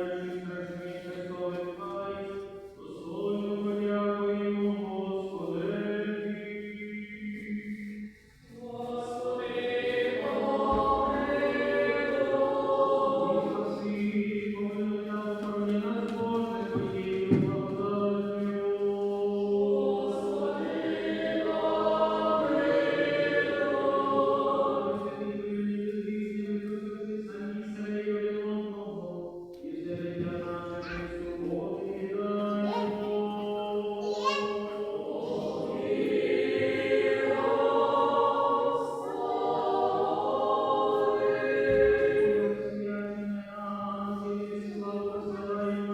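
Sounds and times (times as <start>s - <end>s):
choir singing a chant: 0.0s - 45.9s.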